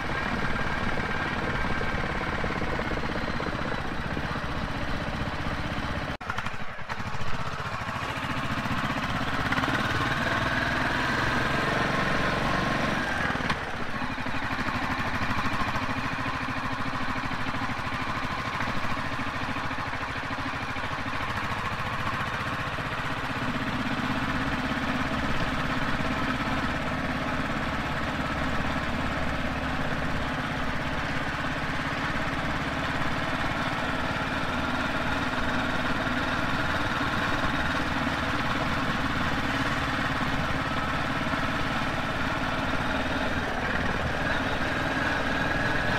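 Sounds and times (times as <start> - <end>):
motorcycle engine running: 0.0 - 45.9
road noise: 0.0 - 45.9.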